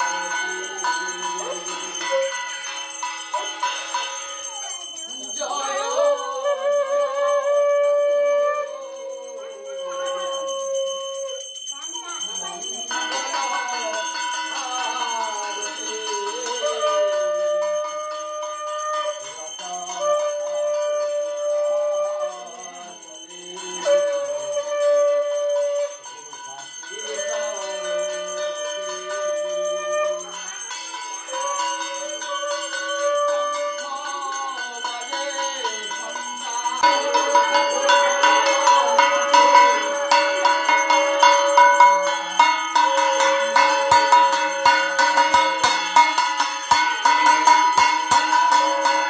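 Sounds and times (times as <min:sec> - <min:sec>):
hand bell ringing: 0:00.0 - 0:49.0.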